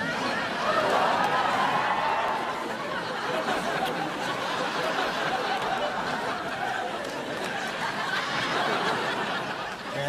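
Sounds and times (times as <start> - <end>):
studio audience laughing: 0.0 - 10.0.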